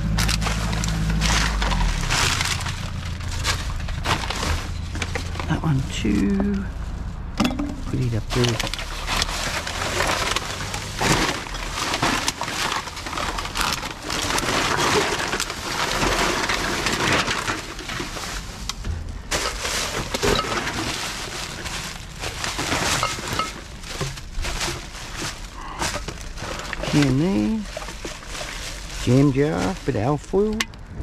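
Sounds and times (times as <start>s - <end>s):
plastic bags rustling and crinkling: 0.0s - 30.7s
knocks of items being shifted: 0.0s - 30.8s.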